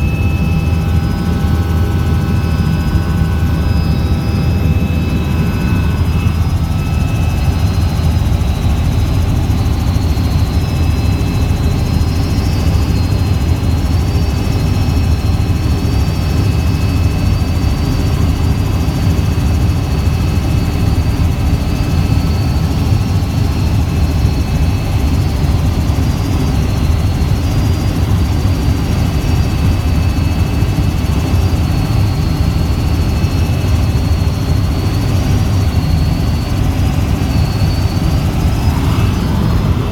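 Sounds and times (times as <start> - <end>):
helicopter rotor drone: 0.0 - 39.9
high turbine whine: 0.0 - 39.9.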